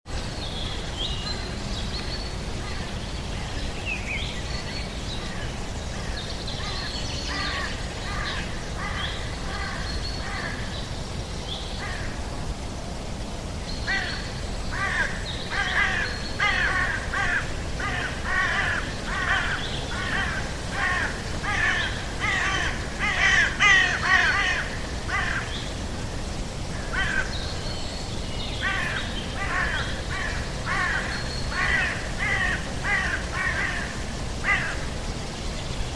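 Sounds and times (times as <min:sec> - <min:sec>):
low background rush: 0:00.1 - 0:35.9.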